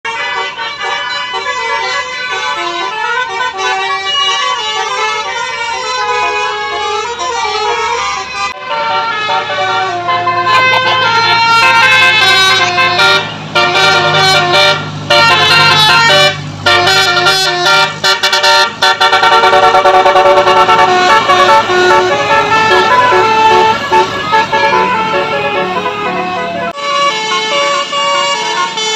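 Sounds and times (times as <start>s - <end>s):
bus musical air horns: 0.0s - 28.9s
engine running: 0.1s - 28.9s.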